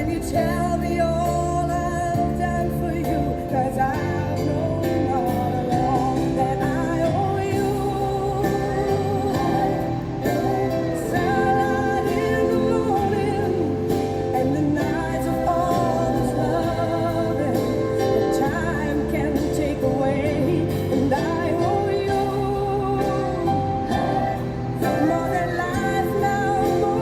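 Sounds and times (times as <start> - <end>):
song with sung vocal: 0.0 - 27.0
sustained bass notes: 0.0 - 27.0.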